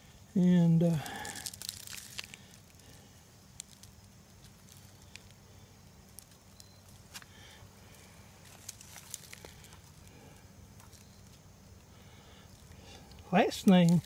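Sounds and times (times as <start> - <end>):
dry leaves crackling underfoot: 0.4 - 14.0.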